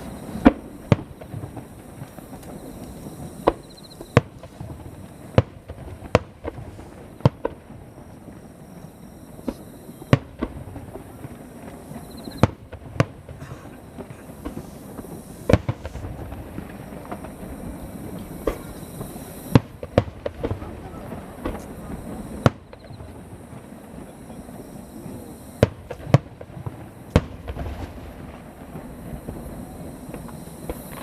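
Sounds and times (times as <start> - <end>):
fireworks bursting: 0.0 - 31.0
steady background noise: 0.0 - 31.0.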